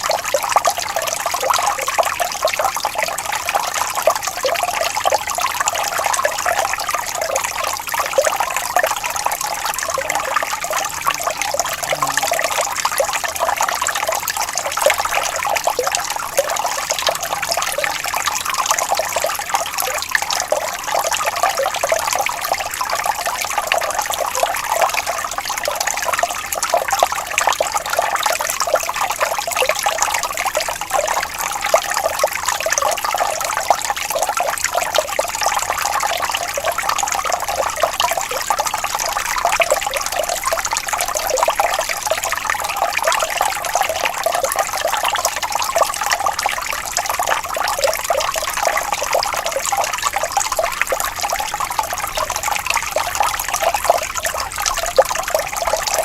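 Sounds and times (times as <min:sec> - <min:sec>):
gently flowing water: 0:00.0 - 0:56.0.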